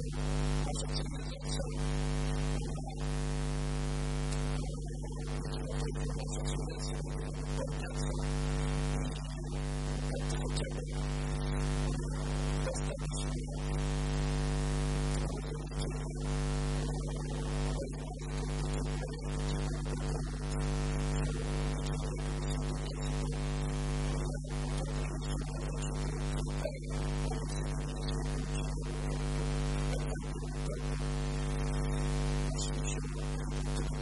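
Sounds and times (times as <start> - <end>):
electrical mains hum: 0.0 - 34.0.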